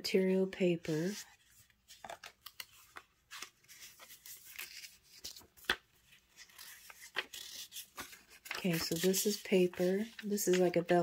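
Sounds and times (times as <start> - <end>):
paper sheets rustling: 0.8 - 11.0.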